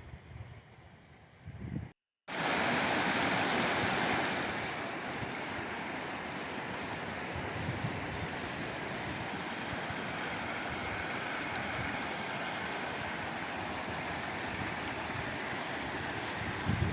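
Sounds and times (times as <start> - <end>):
fast-flowing water rushing: 2.3 - 16.9.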